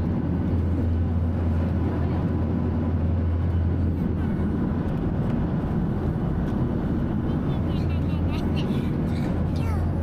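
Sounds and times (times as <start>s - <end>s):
airliner cabin jet drone: 0.0s - 10.0s.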